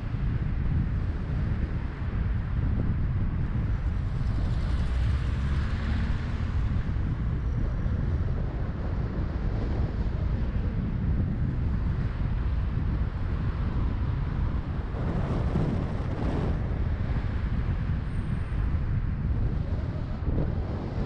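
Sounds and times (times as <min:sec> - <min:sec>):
passing vehicle: 0:00.0 - 0:21.0
wind buffeting microphone: 0:00.0 - 0:21.0.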